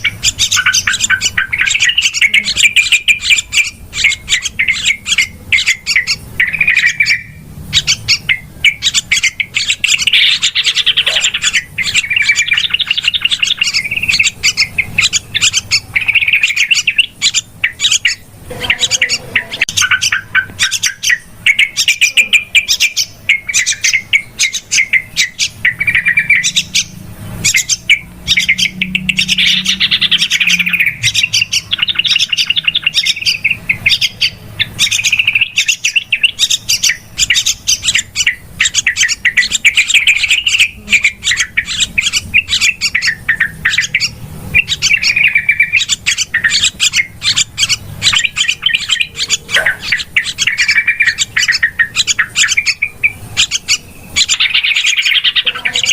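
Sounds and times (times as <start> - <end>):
bulbuls chattering: 0.0 - 55.9.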